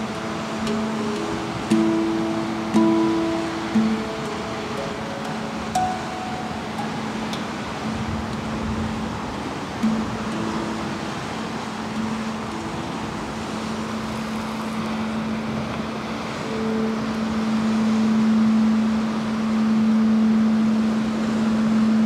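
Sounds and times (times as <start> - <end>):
low droning instrument: 0.0 - 22.0
wind hiss: 0.0 - 22.0.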